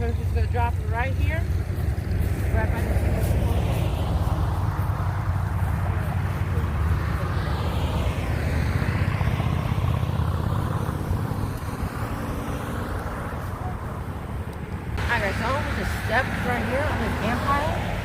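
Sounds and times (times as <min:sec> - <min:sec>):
passing vehicle engine rumble: 0:00.0 - 0:18.0.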